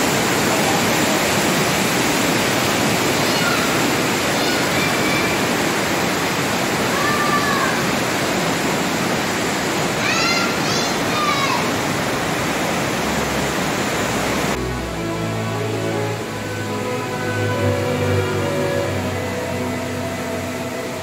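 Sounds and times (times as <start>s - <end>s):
whitewater stream roaring: 0.0s - 21.0s.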